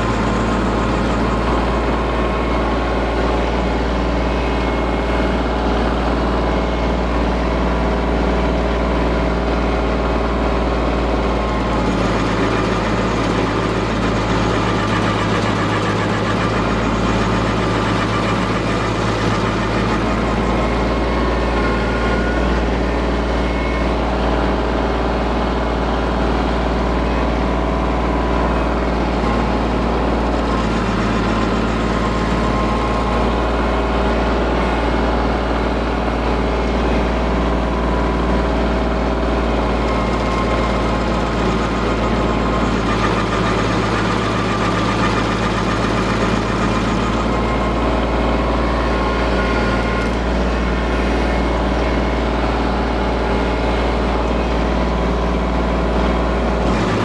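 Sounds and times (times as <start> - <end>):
stump grinder grinding wood: 0.0 - 57.0
tractor engine running: 0.0 - 57.0.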